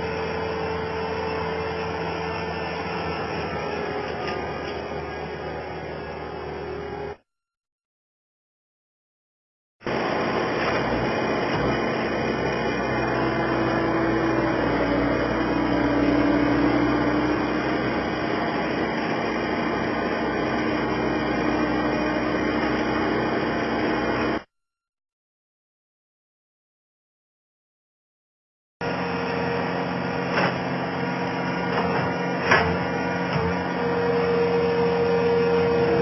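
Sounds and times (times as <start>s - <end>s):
skid steer loader engine running: 0.0s - 7.2s, 9.9s - 24.5s, 28.8s - 36.0s.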